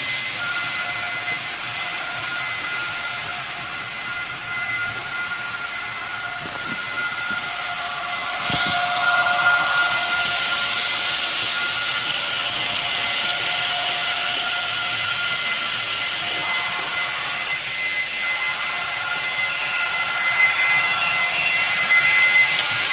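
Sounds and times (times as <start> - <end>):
electric locomotive motors whining: 0.0 - 22.9
wheels rumbling on track: 0.0 - 22.9.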